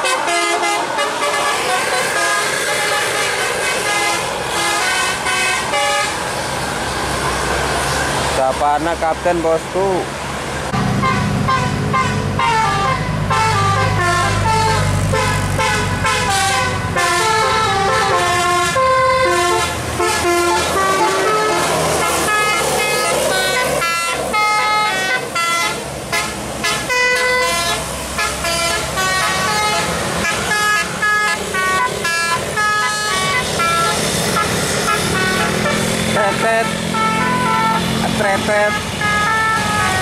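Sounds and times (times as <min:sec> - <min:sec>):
multi-trumpet air horn melody: 0:00.0 - 0:06.2, 0:10.8 - 0:40.0
bus engine rumbling: 0:00.0 - 0:40.0.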